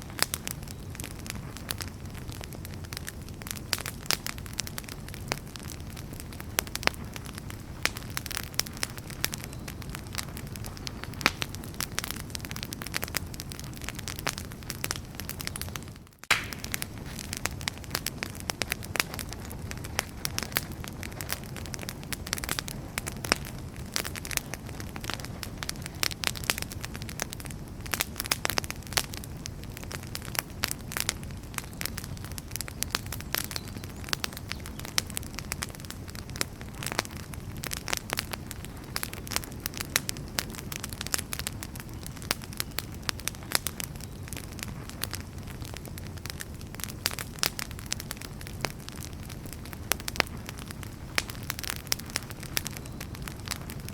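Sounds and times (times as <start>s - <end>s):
firewood popping and snapping: 0.0s - 53.9s
low rumble of flames: 0.0s - 53.9s.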